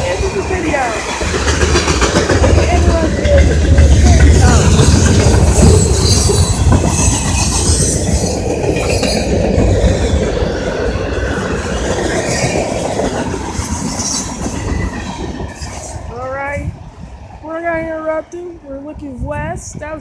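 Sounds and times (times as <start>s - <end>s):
freight cars rolling past: 0.0s - 16.6s.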